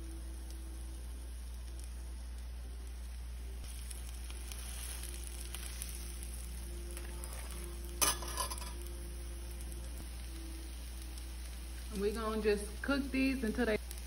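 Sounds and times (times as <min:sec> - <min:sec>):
fritters sizzling in frying pan: 0:00.0 - 0:14.0.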